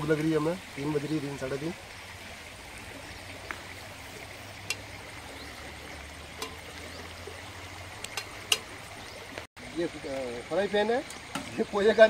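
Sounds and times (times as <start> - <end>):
flowing stream: 0.0 - 12.0.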